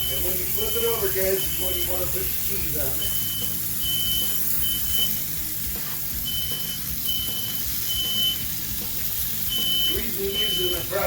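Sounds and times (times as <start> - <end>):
smoke alarm beeping: 0.0 - 5.4, 6.2 - 11.0
burgers sizzling on griddle: 0.0 - 11.0.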